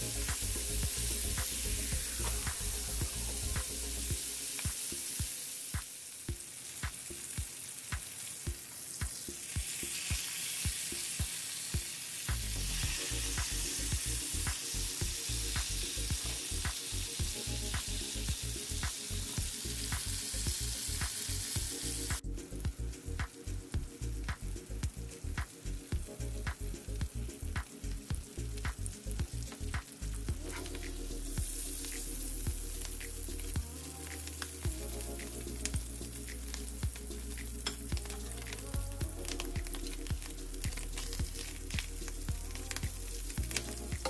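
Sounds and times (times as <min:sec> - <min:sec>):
background music with beat: 0:00.0 - 0:44.0
steak sizzling in fat: 0:00.0 - 0:44.0.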